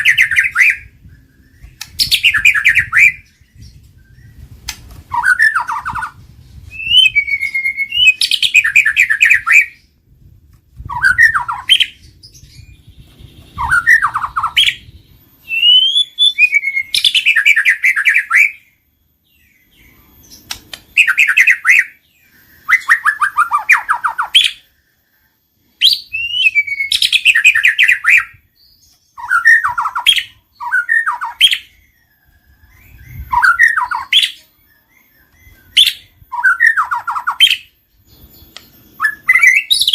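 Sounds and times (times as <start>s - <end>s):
bird whistling and trilling: 0.0s - 9.9s, 10.8s - 24.8s, 25.8s - 39.9s.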